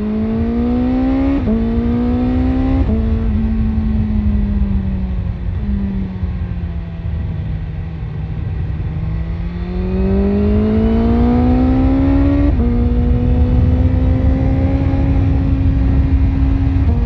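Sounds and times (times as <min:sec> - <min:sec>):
motorcycle engine accelerating: 0:00.0 - 0:17.0
wind noise: 0:00.0 - 0:17.0.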